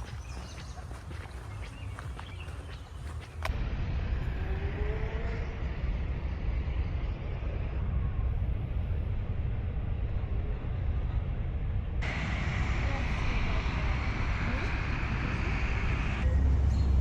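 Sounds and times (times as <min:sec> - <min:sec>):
vehicle rumbling in motion: 0:00.0 - 0:17.0.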